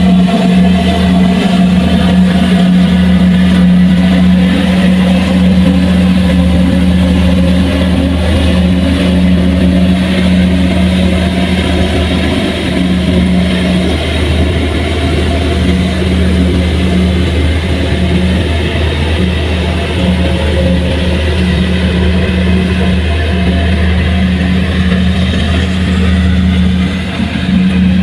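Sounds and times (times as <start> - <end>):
heavy machinery engine running: 0.0 - 28.0.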